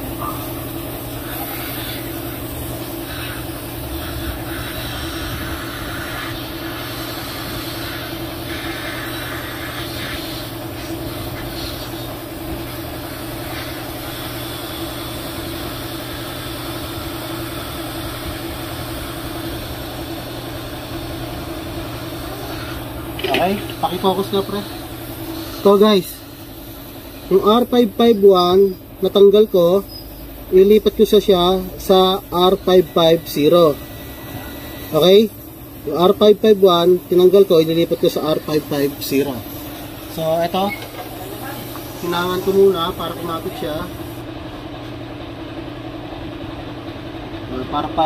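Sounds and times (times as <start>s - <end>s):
hot-air blower hissing: 0.0s - 48.0s.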